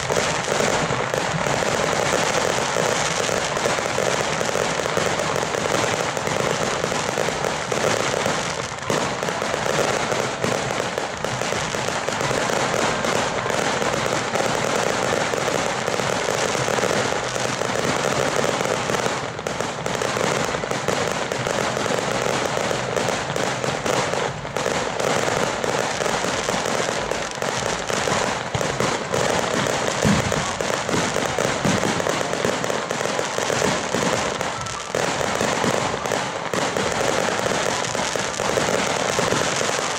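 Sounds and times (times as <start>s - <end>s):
fireworks crackling bangs: 0.0s - 39.9s.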